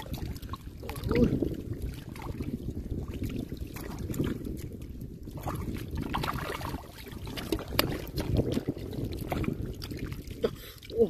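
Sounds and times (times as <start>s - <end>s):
steady low rumble: 0.0s - 10.8s
hands splashing in muddy water: 0.0s - 11.0s.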